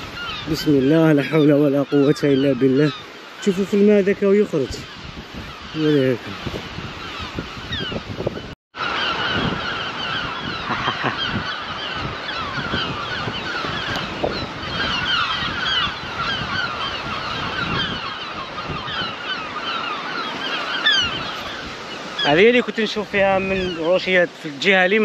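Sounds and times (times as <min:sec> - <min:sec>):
birds calling at a colony: 0:00.0 - 0:25.0.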